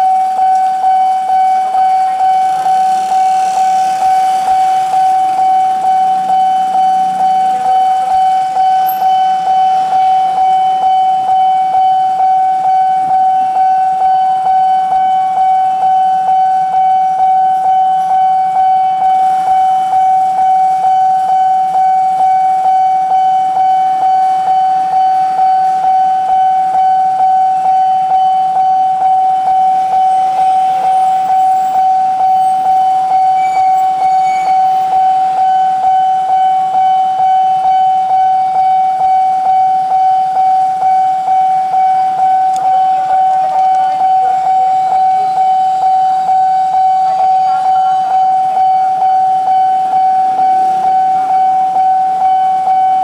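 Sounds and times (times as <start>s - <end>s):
level crossing alarm ringing: 0.0s - 53.0s.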